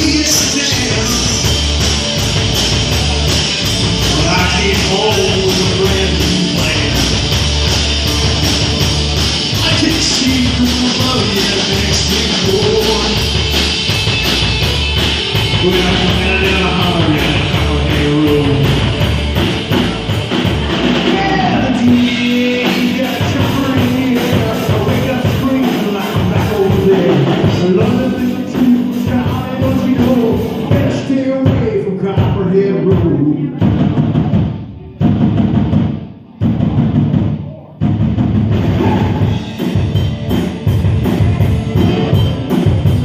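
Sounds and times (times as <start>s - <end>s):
loud rock music: 0.0s - 43.0s.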